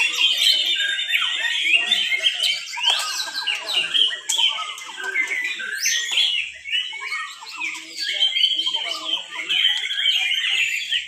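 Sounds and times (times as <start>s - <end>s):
birds singing whistles and trills: 0.0s - 11.0s.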